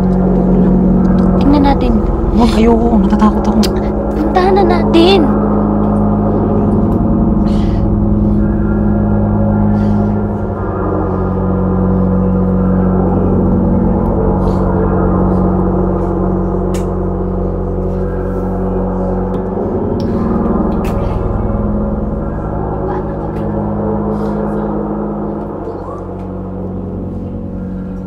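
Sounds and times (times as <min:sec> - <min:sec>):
low suspense drone: 0:00.0 - 0:28.0.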